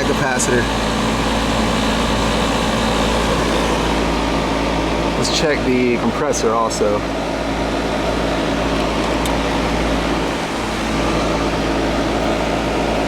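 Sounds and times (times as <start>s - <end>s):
air conditioner hum and whir: 0.0s - 13.0s
low electrical drone: 0.0s - 13.0s.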